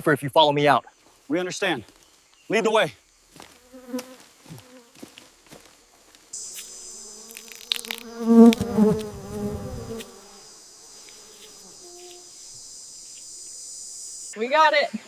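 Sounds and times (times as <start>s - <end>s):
high insect drone: 1.9s - 14.6s.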